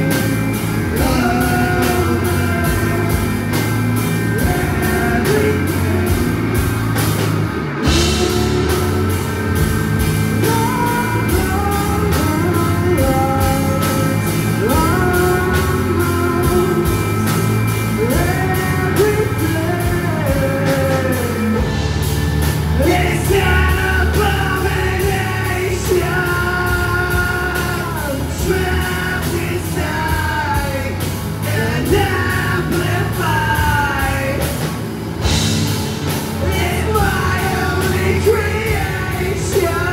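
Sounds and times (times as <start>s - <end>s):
person singing: 0.0s - 21.9s, 22.8s - 34.8s, 36.4s - 39.9s
bass guitar: 0.0s - 39.9s
drum kit: 0.0s - 39.9s
electric guitar: 0.0s - 39.9s.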